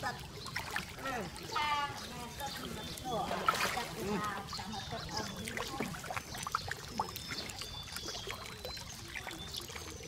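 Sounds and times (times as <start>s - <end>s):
water sloshing: 0.0s - 10.0s.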